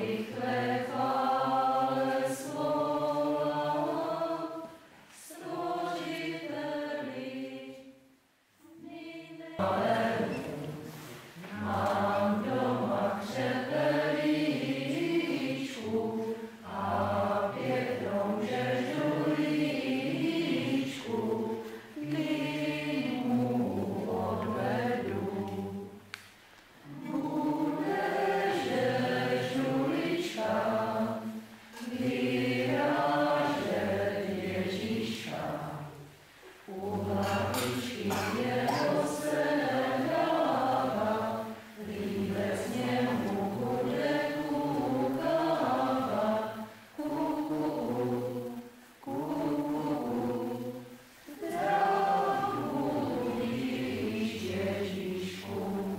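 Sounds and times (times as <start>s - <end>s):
group singing unaccompanied: 0.0s - 26.2s, 26.8s - 55.9s.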